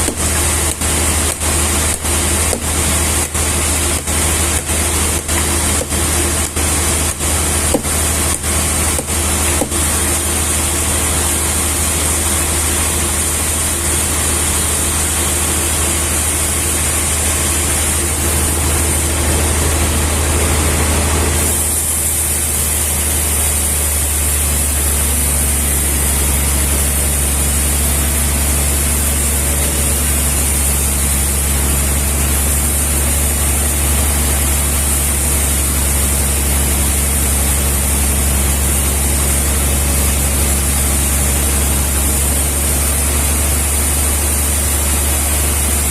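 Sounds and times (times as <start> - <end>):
heavy engine humming: 0.0 - 45.9.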